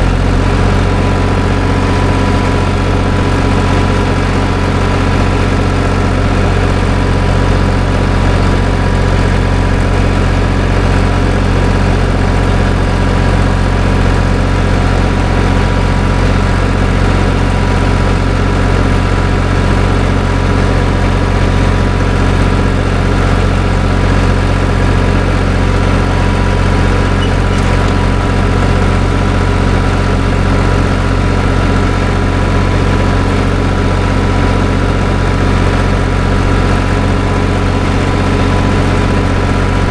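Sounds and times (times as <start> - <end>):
tractor diesel engine humming: 0.0 - 39.9.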